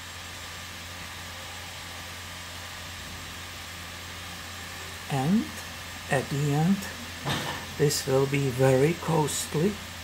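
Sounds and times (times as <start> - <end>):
even hiss: 0.0 - 10.0.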